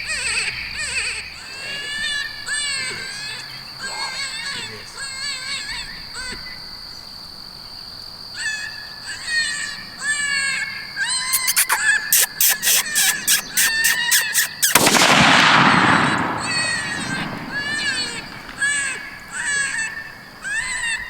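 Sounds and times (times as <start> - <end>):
animal crying calls: 0.0 - 6.4, 8.4 - 21.0.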